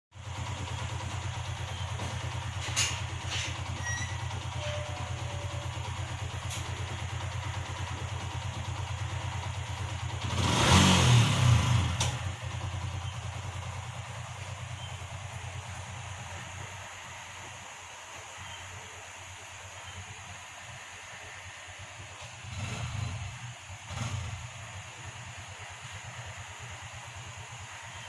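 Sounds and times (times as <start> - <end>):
vehicle engine running: 0.1 - 28.0.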